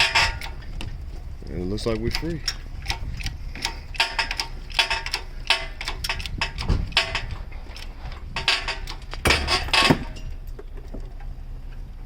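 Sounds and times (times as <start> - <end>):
metal clanking and knocking: 0.0 - 1.0, 1.9 - 11.0.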